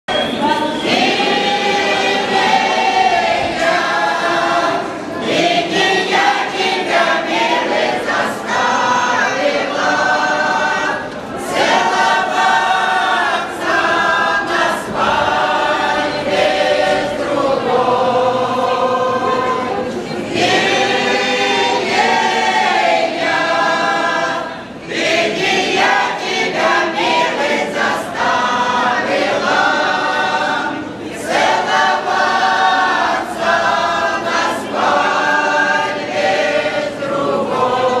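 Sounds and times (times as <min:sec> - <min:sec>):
women singing unaccompanied: 0:00.4 - 0:38.0.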